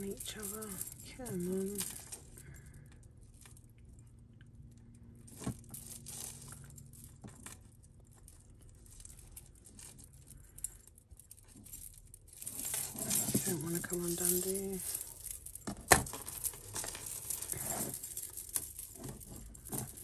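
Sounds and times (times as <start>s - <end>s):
metal chains clicking and rustling: 0.0s - 4.0s, 4.7s - 20.0s.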